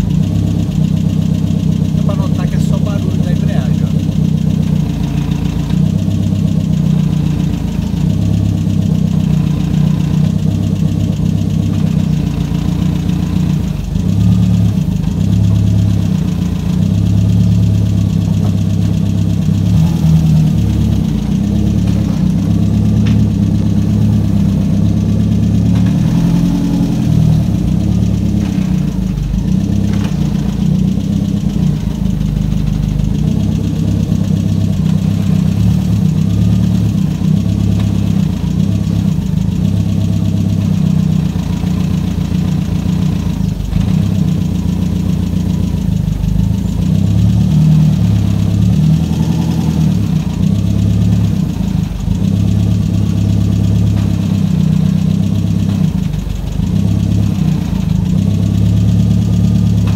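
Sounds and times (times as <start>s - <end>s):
car engine at low revs: 0.0s - 59.9s.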